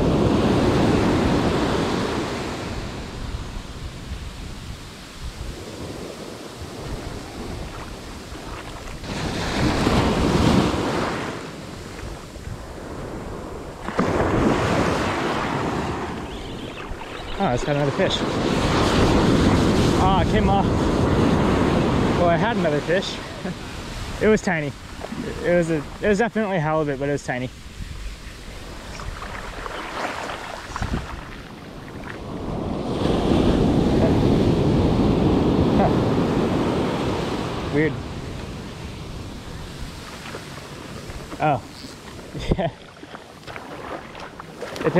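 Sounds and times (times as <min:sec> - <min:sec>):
wind buffeting microphone: 0:00.0 - 0:26.4, 0:27.4 - 0:44.9
ocean surf on beach: 0:00.0 - 0:44.9.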